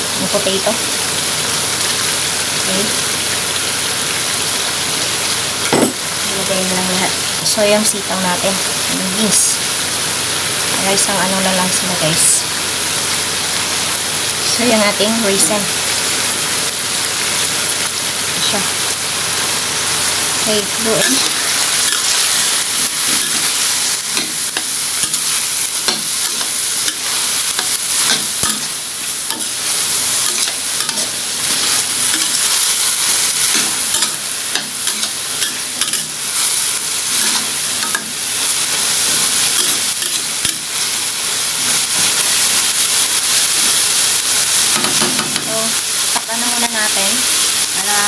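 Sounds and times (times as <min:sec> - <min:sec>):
meat sizzling in a wok: 0:00.0 - 0:48.0.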